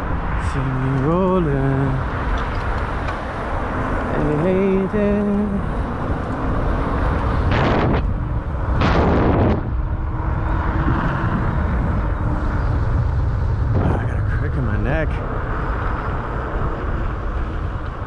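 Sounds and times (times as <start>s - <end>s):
wind and road noise on microphone: 0.0s - 18.0s.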